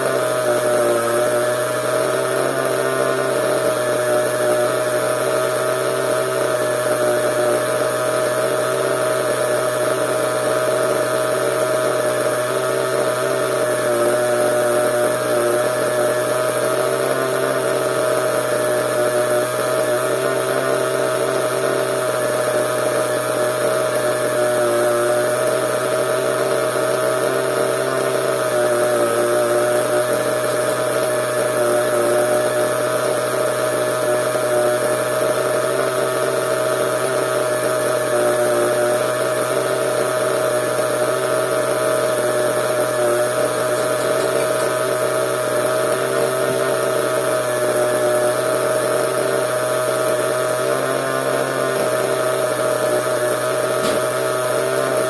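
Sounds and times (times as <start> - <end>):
small engine buzzing: 0.0 - 55.0.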